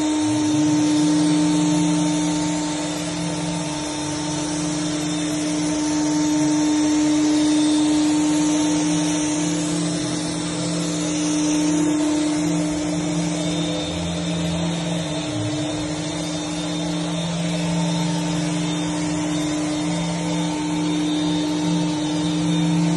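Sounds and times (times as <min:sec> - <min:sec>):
paint sprayer motor hum: 0:00.0 - 0:22.9
spray hiss: 0:00.0 - 0:22.9.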